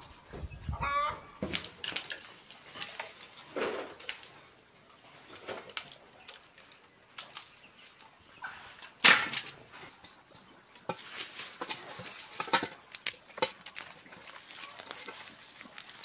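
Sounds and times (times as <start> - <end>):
rustling among garden plants: 0.0 - 16.0.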